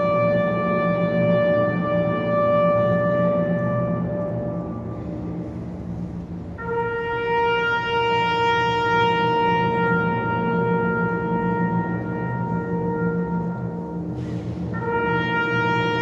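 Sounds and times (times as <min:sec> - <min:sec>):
high held brass note: 0:00.0 - 0:16.0
wind band playing slow passage: 0:00.0 - 0:16.0.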